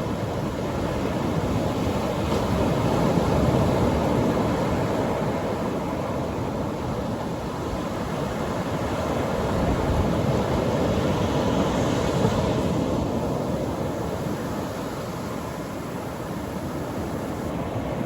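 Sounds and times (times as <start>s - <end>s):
surf breaking on a beach: 0.0s - 18.0s.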